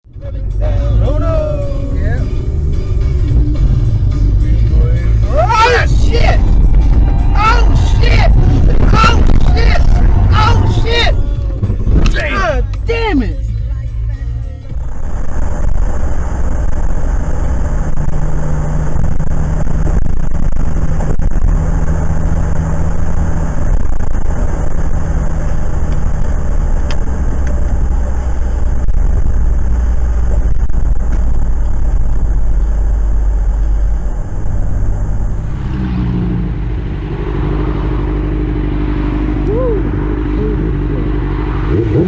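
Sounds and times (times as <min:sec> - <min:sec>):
car engine and road rumble: 0:00.0 - 0:42.0.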